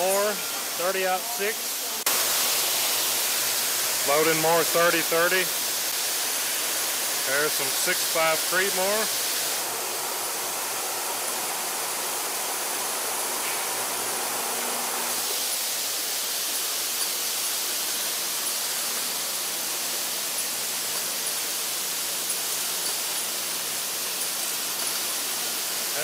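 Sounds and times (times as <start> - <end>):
factory machinery hissing: 0.0 - 26.0.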